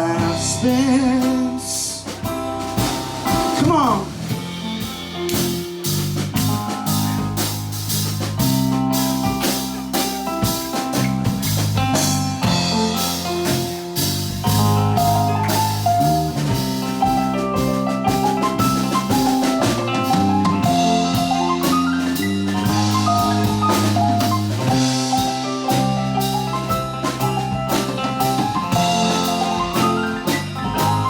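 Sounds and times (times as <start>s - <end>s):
bass guitar: 0.0s - 31.0s
drum kit beat: 0.0s - 31.0s
guitar: 0.0s - 31.0s.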